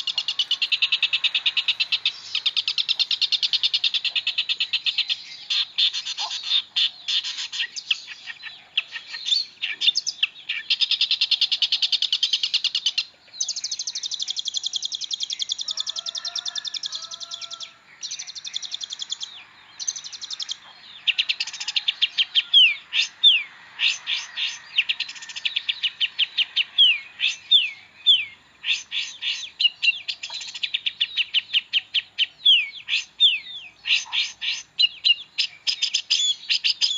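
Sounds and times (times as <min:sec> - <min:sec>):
bird singing rapid trills: 0:00.0 - 0:36.9.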